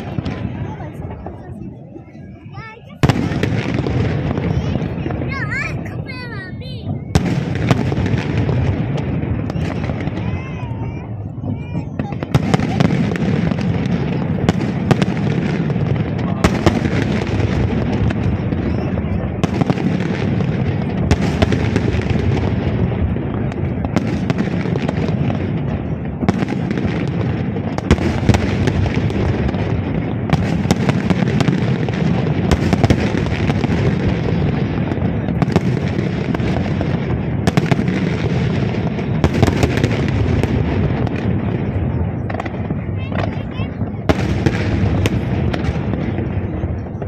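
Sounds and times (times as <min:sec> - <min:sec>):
fireworks bangs: 0:00.0 - 0:47.0
rumble of fireworks booms: 0:00.0 - 0:47.0.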